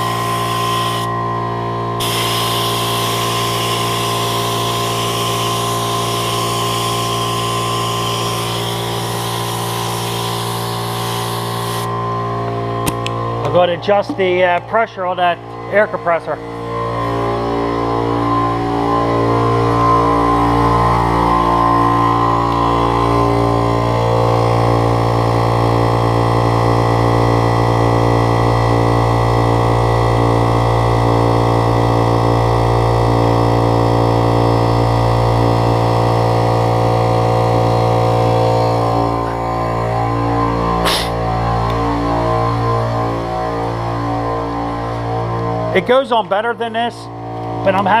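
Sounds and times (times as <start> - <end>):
electric air compressor running: 0.0 - 13.5, 16.5 - 44.8.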